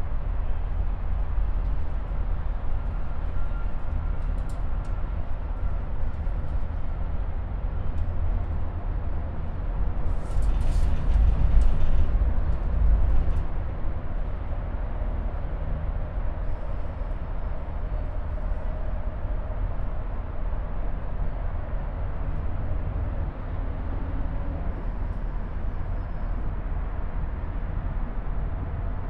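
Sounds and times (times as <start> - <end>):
cable car cabin rumble: 0.0 - 29.0.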